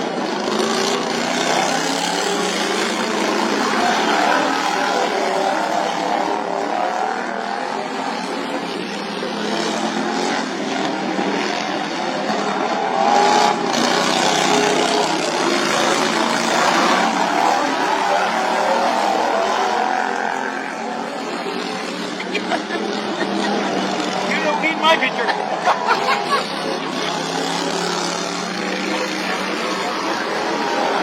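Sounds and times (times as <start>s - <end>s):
racing lawnmower engines: 0.0s - 31.0s.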